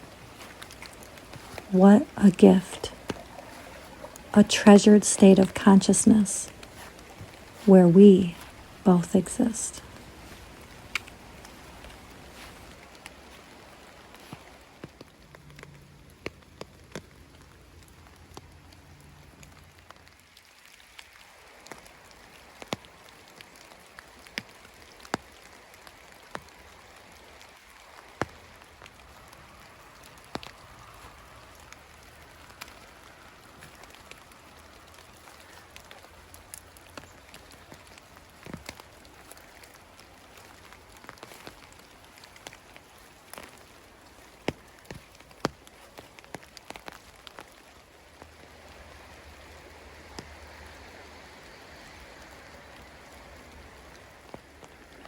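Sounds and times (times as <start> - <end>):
light rain hiss: 0.0 - 55.0
raindrops ticking on leaves: 0.0 - 55.0.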